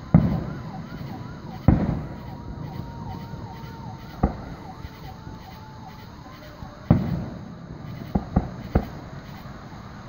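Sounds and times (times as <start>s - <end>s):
firework shells booming: 0.0s - 5.4s, 6.0s - 10.0s
siren wailing: 0.0s - 9.9s.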